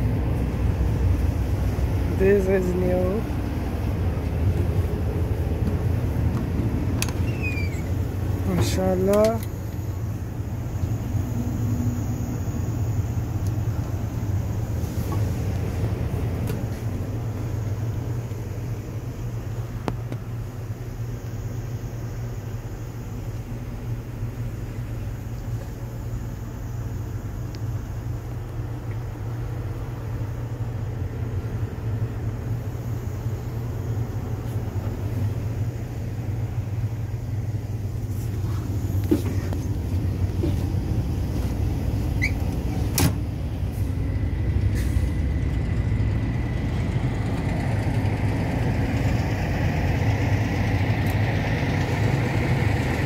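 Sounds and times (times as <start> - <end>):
truck diesel engine idling: 0.0 - 53.0.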